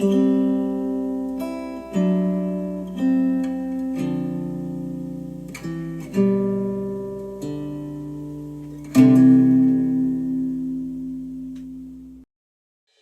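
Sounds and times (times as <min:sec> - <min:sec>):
acoustic guitar chords ringing: 0:00.0 - 0:12.3.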